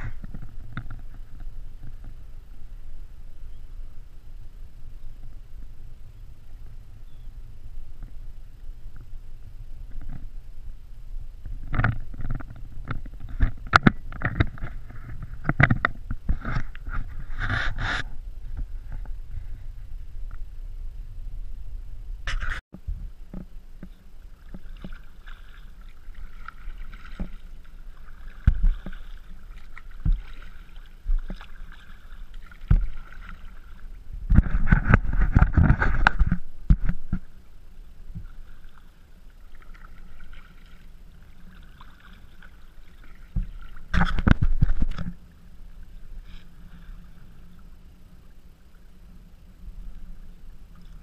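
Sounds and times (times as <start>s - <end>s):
paddle strokes: 0.0s - 20.5s, 22.2s - 51.0s
water splashing against hull: 0.0s - 51.0s.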